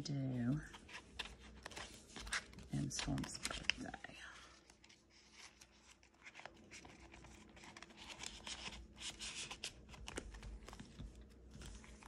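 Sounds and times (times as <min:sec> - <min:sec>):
paper rustling and shuffling: 0:00.2 - 0:12.0.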